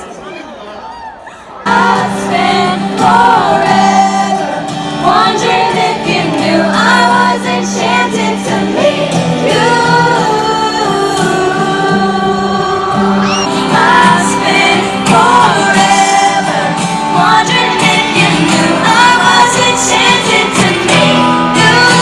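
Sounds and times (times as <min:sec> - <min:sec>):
live pop concert music: 0:00.0 - 0:22.0.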